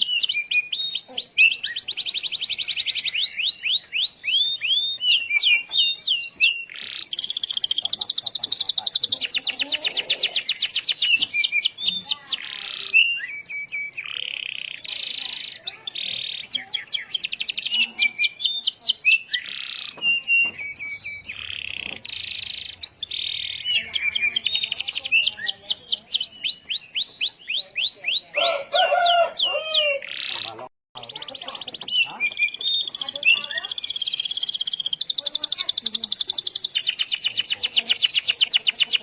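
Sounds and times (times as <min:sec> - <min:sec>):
canary singing: 0:00.0 - 0:39.0.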